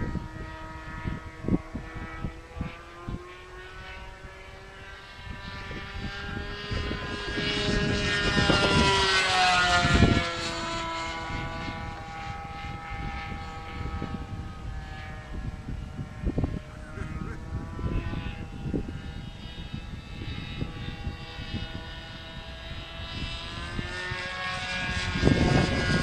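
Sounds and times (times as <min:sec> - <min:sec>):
model airplane engine flying past: 0:00.0 - 0:26.0.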